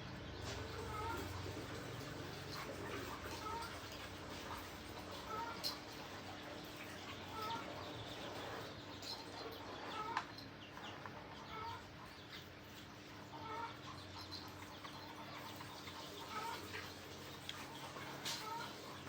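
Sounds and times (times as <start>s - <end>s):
chickens clucking: 0.2s - 19.0s.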